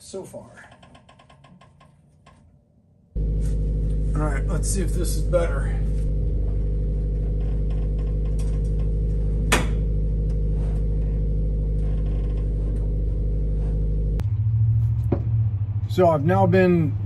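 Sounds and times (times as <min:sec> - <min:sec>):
low mechanical hum: 0:03.2 - 0:17.0.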